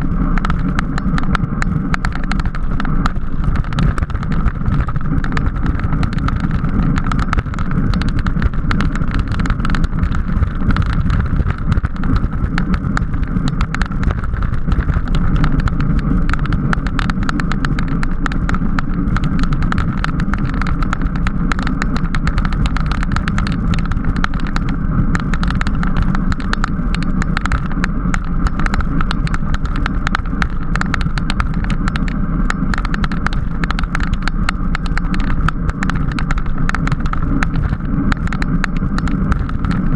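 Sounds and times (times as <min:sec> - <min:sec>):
bicycle road noise: 0:00.0 - 0:39.9
small clicks and rattles: 0:00.0 - 0:39.9
wind rush: 0:00.0 - 0:39.9.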